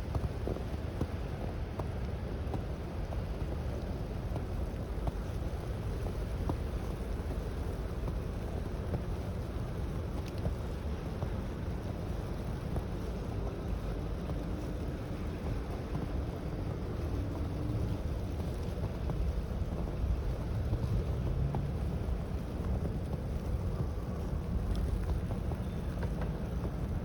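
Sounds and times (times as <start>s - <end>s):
blizzard wind: 0.0s - 27.0s
city street noise: 0.0s - 27.0s.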